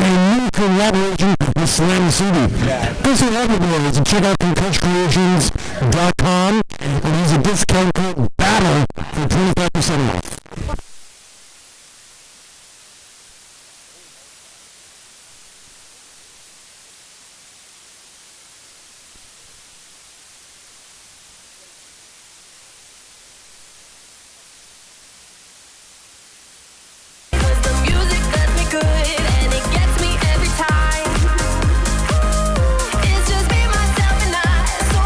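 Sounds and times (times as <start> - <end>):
static hiss: 0.0 - 5.5, 8.4 - 35.0.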